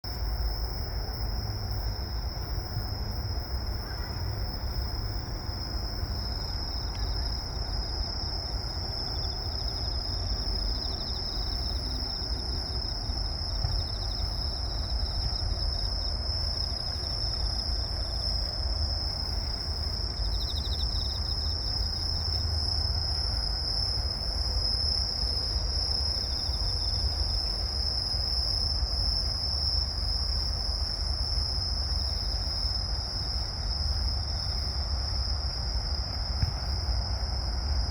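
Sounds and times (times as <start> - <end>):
crickets chirring: 0.1 - 37.9
insect pulsed trill: 0.1 - 37.9.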